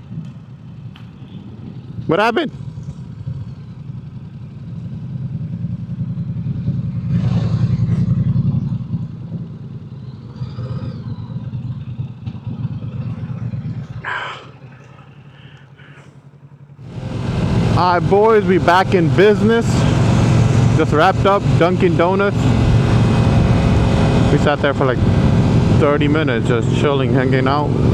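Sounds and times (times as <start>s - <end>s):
motorcycle engine rumbling: 0.0s - 27.9s.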